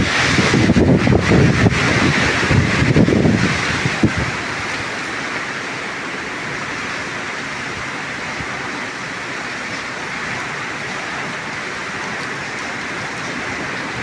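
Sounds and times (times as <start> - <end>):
heavy rain and wind: 0.0 - 14.0.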